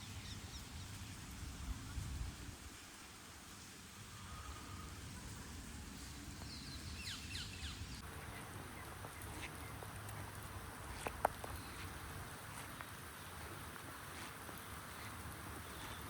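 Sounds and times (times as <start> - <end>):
faint rain hiss: 0.0 - 16.0.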